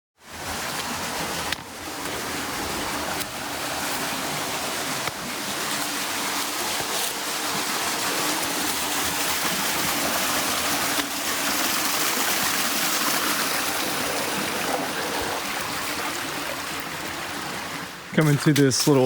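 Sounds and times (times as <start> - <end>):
creek water running: 0.2 - 19.0.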